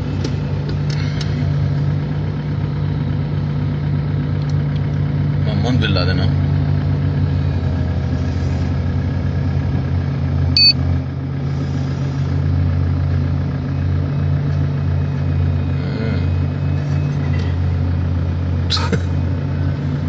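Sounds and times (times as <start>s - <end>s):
heavy diesel engines droning: 0.0s - 20.0s.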